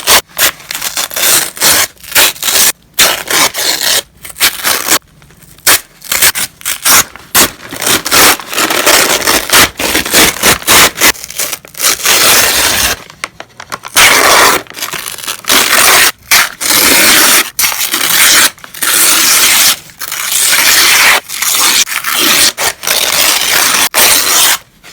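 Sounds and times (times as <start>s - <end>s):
paper tearing: 0.0s - 5.0s, 5.6s - 13.1s, 13.8s - 24.9s.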